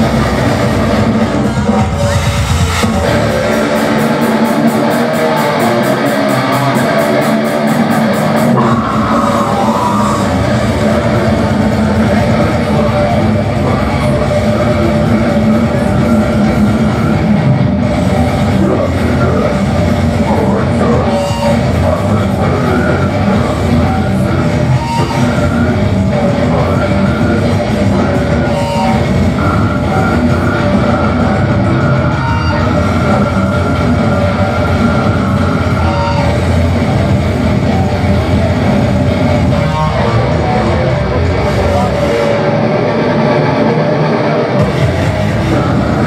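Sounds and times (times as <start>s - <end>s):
distorted electric guitars: 0.0s - 46.0s
drums: 0.0s - 46.0s.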